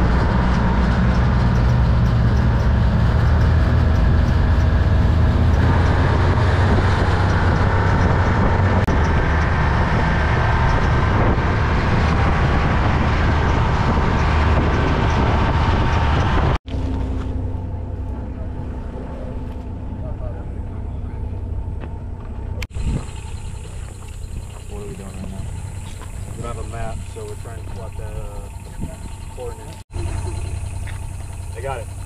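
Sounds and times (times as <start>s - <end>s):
steady low hum: 0.0s - 32.0s
vehicle engine and tyre noise: 0.0s - 32.0s.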